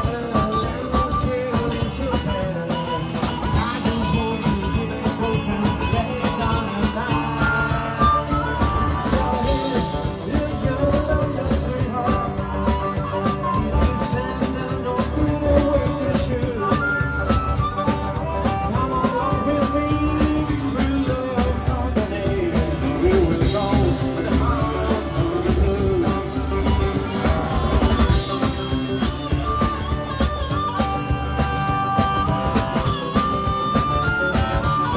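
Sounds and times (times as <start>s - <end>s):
man singing: 0.0s - 30.2s
drum kit: 0.0s - 34.9s
electric guitar: 0.0s - 34.9s
harmonica: 0.0s - 34.9s.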